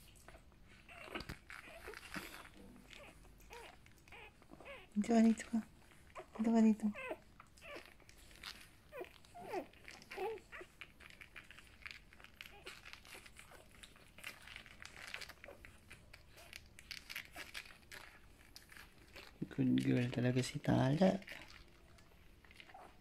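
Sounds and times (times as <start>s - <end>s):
puppies suckling: 0.0s - 23.0s
puppies squeaking: 0.1s - 19.4s, 21.2s - 23.0s.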